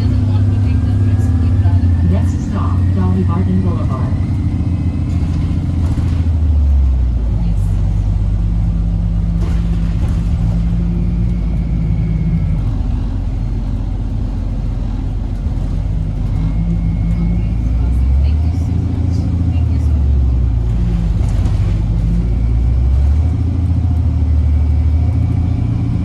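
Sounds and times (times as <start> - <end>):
bus interior drone: 0.0 - 26.0.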